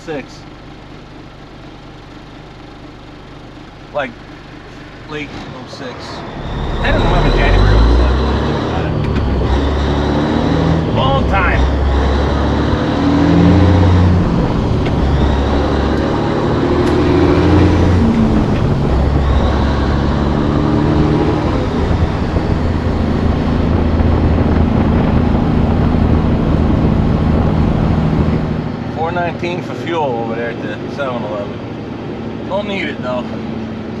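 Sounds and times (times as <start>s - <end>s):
truck diesel engine shifting gears: 3.7s - 34.0s.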